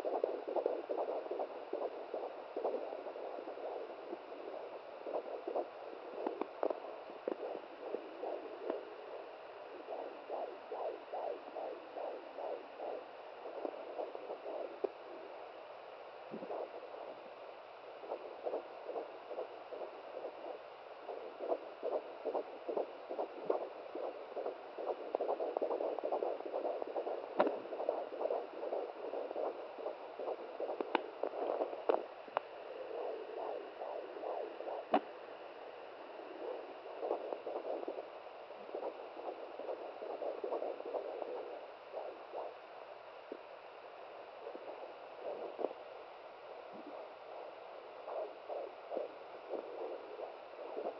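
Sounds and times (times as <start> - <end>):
fetal heartbeat on doppler: 0.0 - 50.9.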